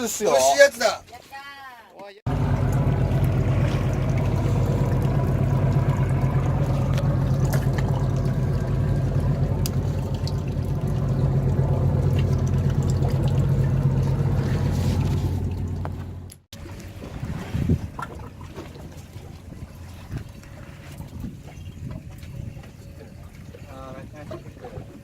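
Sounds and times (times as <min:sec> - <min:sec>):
boat engine humming: 0:02.3 - 0:25.0
water splashing along hull: 0:02.3 - 0:25.0.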